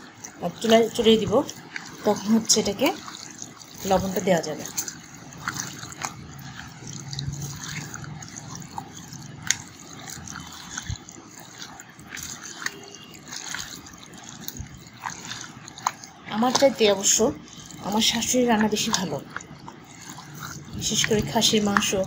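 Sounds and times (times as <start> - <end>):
wet squelching of kneaded meat: 0.0 - 22.0.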